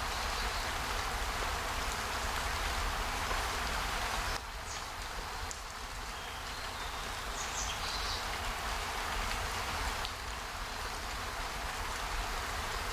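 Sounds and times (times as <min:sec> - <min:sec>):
even outdoor hiss: 0:00.0 - 0:12.9.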